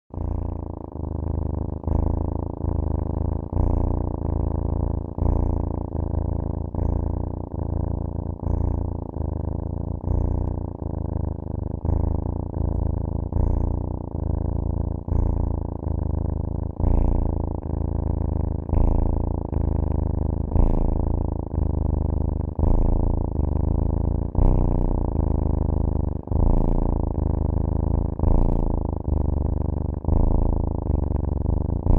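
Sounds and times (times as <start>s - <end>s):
cat purring: 0.1s - 31.9s.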